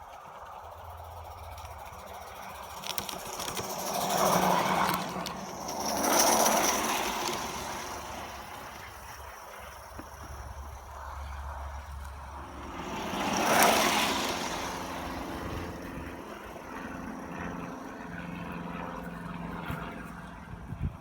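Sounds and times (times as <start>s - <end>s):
steam locomotive running past: 0.0s - 20.7s.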